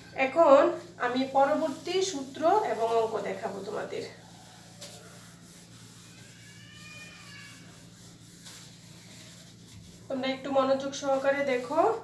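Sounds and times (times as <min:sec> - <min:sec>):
cloth rubbing on whiteboard: 0:00.4 - 0:12.0.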